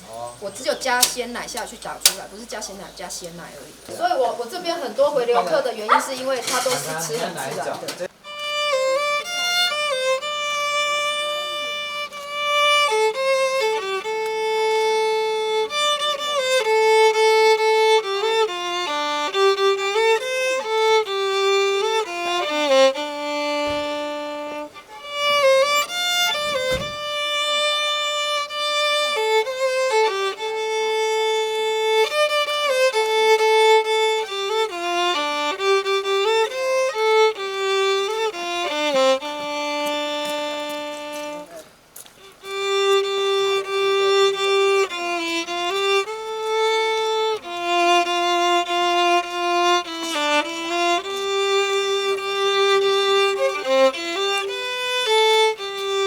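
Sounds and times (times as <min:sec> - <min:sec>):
bowed string instrument melody: 0:00.0 - 0:56.0.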